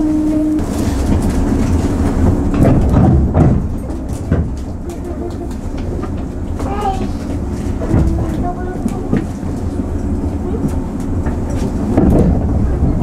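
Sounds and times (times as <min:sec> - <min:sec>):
train rumbling: 0:00.0 - 0:13.0
wheels clunking over rail joints: 0:00.0 - 0:13.0.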